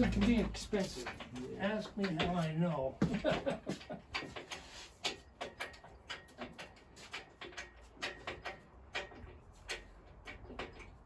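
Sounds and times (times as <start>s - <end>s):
light clicks and knocks: 0.0s - 11.0s.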